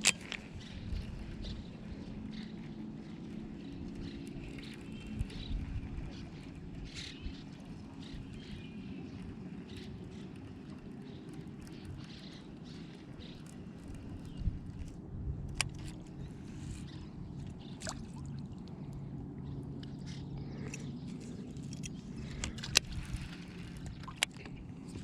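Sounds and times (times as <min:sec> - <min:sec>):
pedal drive humming: 0:00.0 - 0:25.0.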